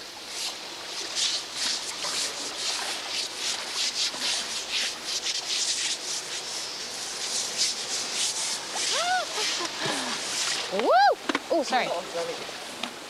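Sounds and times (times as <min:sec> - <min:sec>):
hand scrubbing wet hide: 0:00.3 - 0:10.8.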